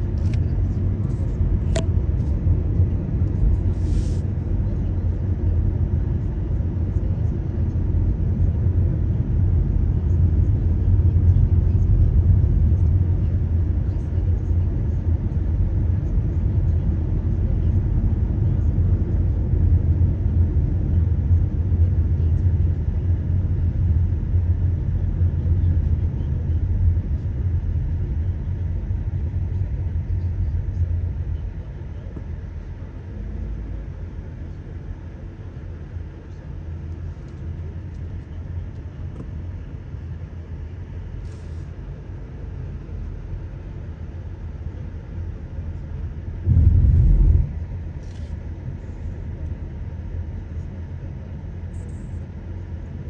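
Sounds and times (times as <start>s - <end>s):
car road and engine rumble: 0.0s - 53.0s.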